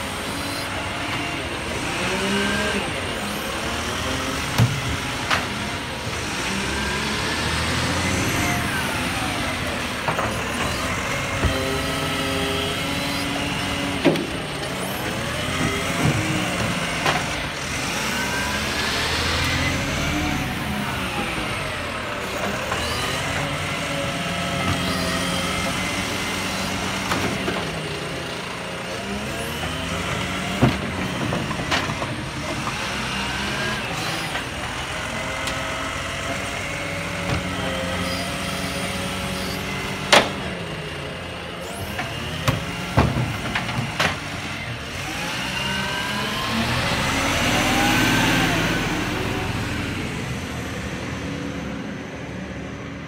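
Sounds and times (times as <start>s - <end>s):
hydraulic arm whine: 0.0s - 51.5s
garbage truck diesel engine: 0.0s - 53.0s.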